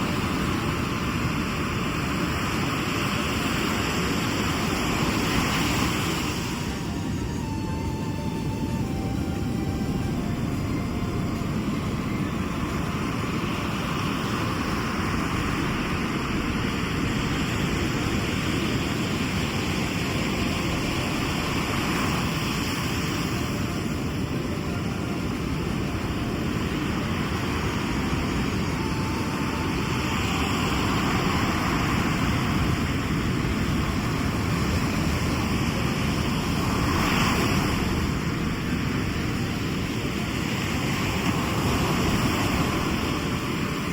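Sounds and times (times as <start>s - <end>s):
sea waves rumbling and breaking: 0.0s - 43.9s.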